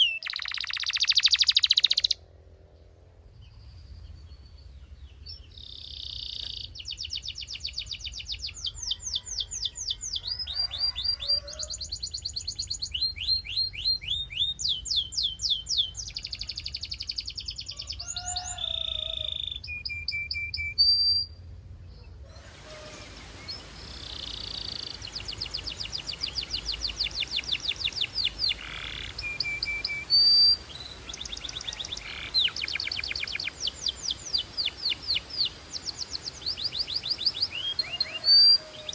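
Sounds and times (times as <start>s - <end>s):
canary singing in fast trills: 0.0s - 2.2s, 5.3s - 21.3s, 22.0s - 38.9s.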